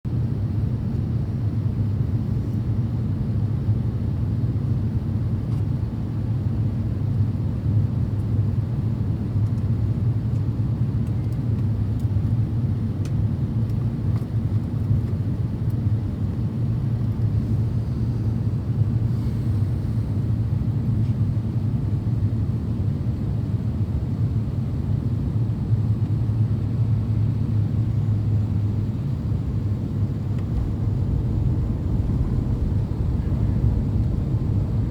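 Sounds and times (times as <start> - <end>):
aircraft cabin engine rumble: 0.1 - 34.9.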